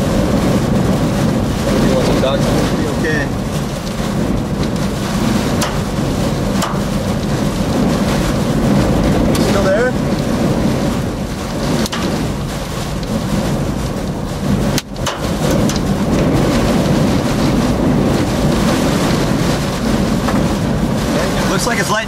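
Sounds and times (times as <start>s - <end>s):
rain battering a vehicle: 0.0s - 22.0s
violent storm winds: 0.0s - 22.0s.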